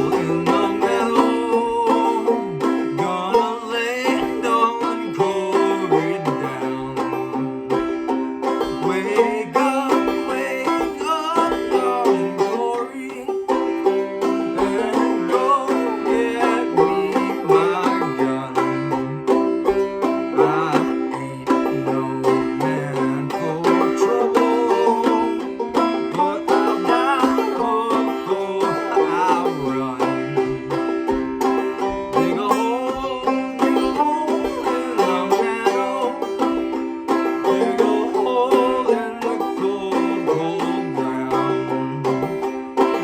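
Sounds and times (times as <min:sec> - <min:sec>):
banjo playing folk tune: 0:00.0 - 0:43.0.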